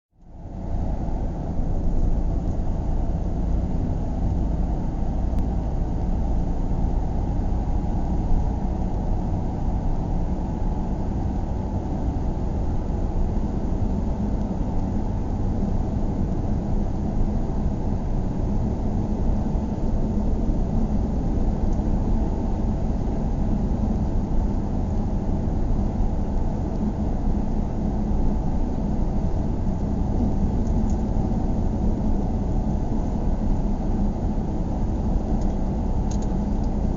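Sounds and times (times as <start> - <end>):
engine and tyre rumble: 0.1 - 36.9
low hum: 0.1 - 36.9.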